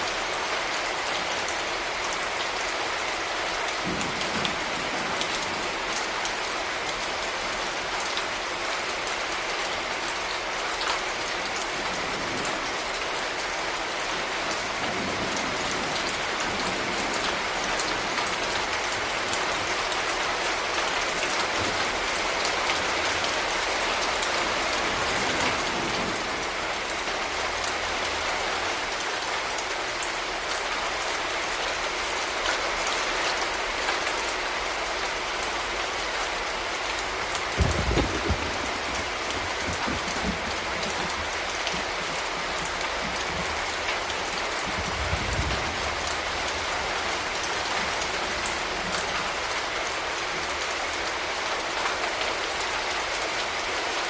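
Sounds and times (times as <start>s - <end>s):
rain on hard surfaces: 0.0s - 54.0s.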